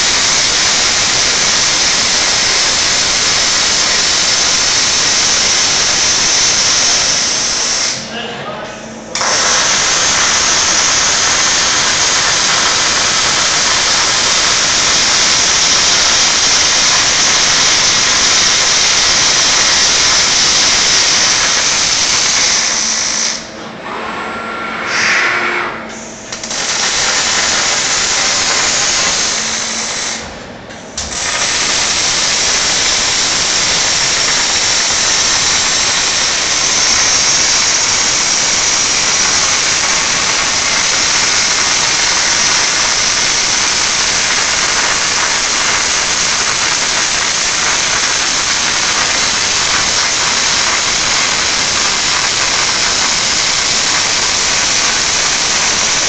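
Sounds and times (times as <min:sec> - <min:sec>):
welding arc hissing and crackling: 0:00.0 - 0:08.1, 0:09.1 - 0:23.5, 0:26.2 - 0:30.3, 0:31.0 - 0:56.0.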